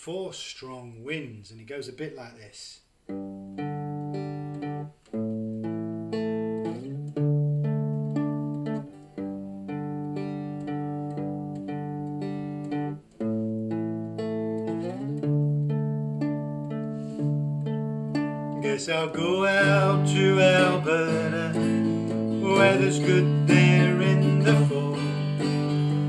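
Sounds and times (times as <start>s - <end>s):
guitars playing ringing chords: 3.1s - 26.0s.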